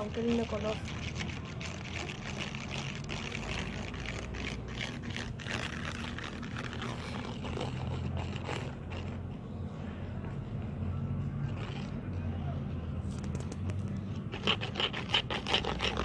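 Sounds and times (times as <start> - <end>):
paintbrush scraping in a bowl: 0.0 - 9.7, 11.3 - 12.2, 13.1 - 16.0.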